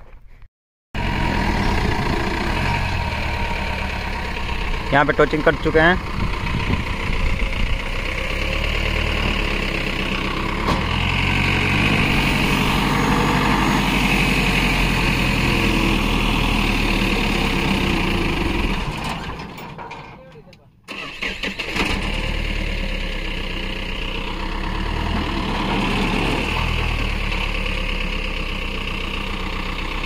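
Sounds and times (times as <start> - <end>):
vehicle engine running: 1.0 - 19.7, 21.2 - 30.0.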